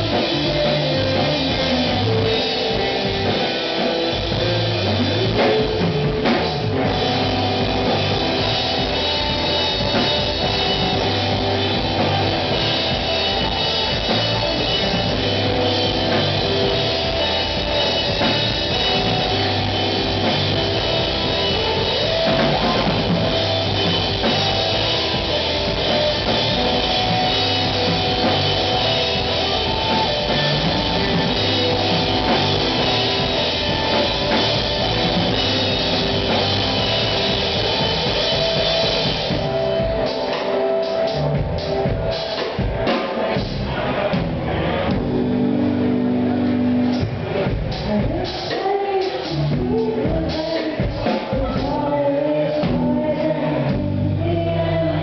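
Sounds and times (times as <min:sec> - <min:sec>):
drum kit: 0:00.0 - 0:55.0
electric guitar: 0:00.0 - 0:55.0
rock band playing: 0:00.0 - 0:55.0.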